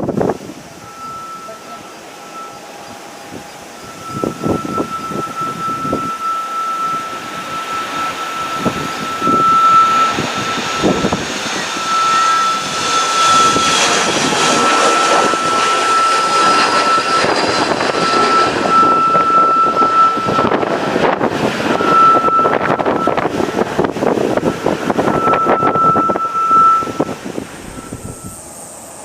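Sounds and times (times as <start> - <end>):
jet engines on takeoff: 0.0 - 29.0
whistling tone: 0.8 - 20.7, 21.6 - 23.3, 25.0 - 28.8.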